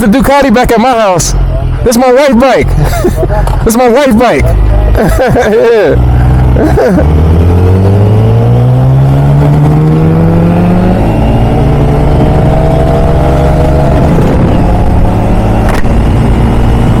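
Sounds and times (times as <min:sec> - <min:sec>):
motorcycle engine accelerating: 0:00.2 - 0:17.0.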